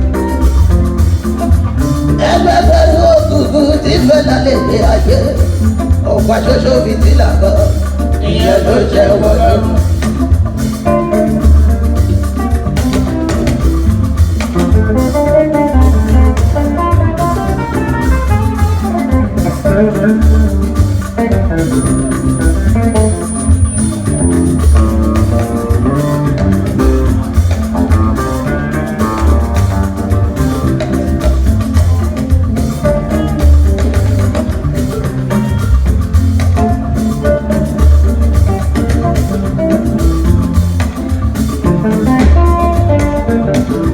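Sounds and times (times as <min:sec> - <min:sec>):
instrumental band music: 0:00.0 - 0:43.9.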